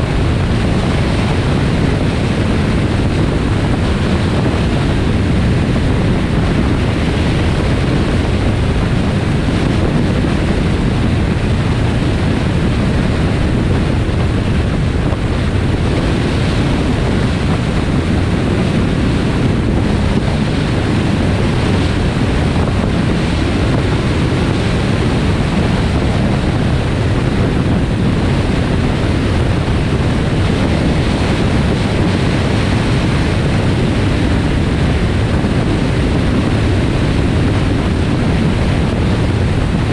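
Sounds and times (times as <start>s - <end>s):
car road noise: 0.0s - 39.9s
wind noise on microphone: 0.0s - 39.9s.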